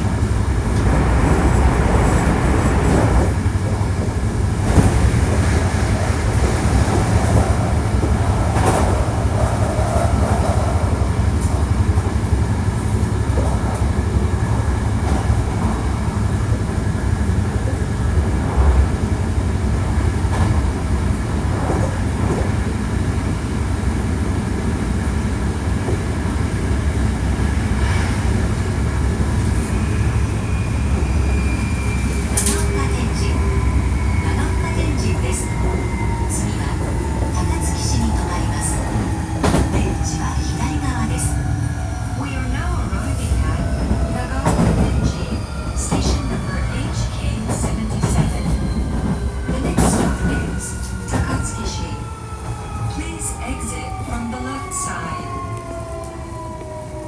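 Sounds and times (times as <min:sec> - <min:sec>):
rail joint clicks: 0:00.0 - 0:57.0
train wheel-on-rail rumble: 0:00.0 - 0:57.0.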